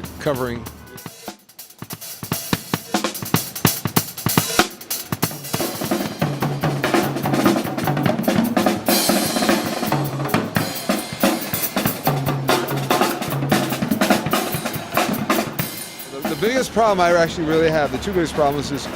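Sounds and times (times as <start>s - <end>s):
fast drum kit playing: 0.0s - 18.9s.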